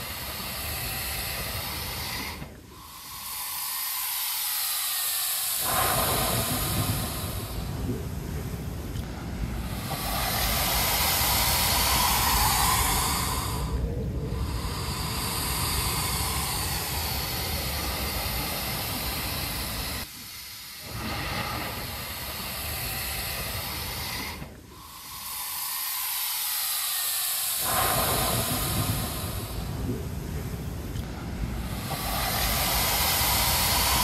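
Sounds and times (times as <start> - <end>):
air and seawater hissing through rock: 0.0 - 34.0.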